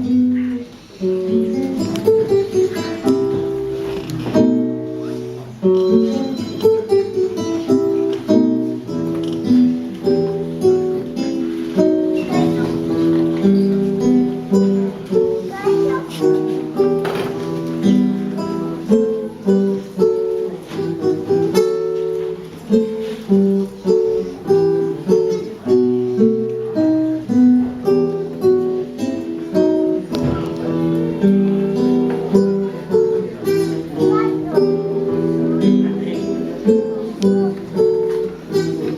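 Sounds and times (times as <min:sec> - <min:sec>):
acoustic guitar strumming: 0:00.0 - 0:38.9.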